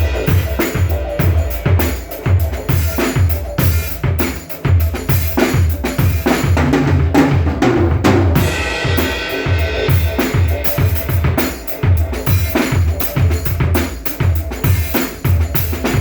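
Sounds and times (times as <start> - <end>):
ringing cymbal wash: 0.0 - 5.4, 8.4 - 15.9
drum kit groove: 0.0 - 16.0.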